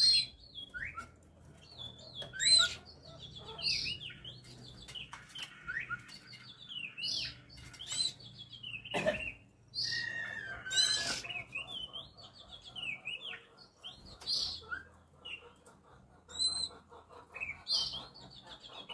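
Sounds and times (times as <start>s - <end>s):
bird singing: 0.0s - 18.9s.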